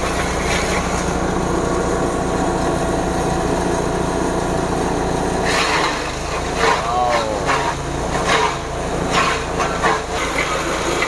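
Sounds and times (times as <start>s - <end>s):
forage chopper chopping grass: 0.0s - 11.0s.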